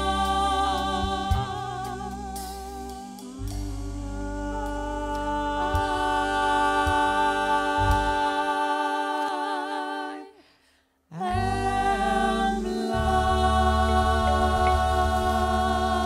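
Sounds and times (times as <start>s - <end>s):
low sustained backing tone: 0.0s - 8.6s, 11.2s - 16.0s
women singing in harmony: 0.0s - 10.5s, 11.1s - 16.0s.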